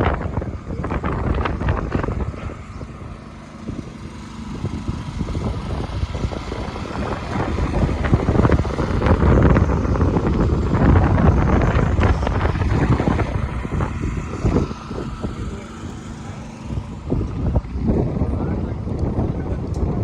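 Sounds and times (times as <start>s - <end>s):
engine-like hum: 0.0s - 20.0s
wind buffeting microphone: 0.0s - 20.0s.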